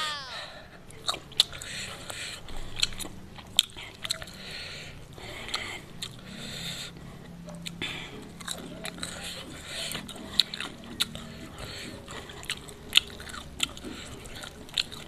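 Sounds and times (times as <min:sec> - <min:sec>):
chewing crispy fried chicken: 0:00.1 - 0:15.0.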